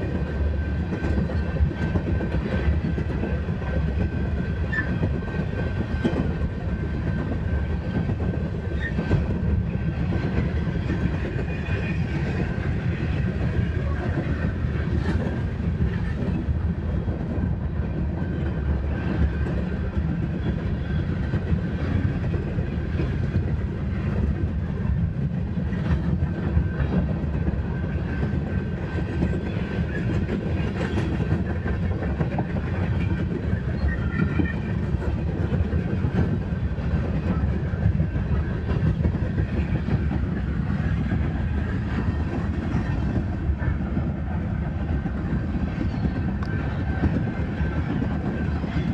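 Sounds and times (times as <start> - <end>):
train cars rumbling past: 0.0 - 48.9.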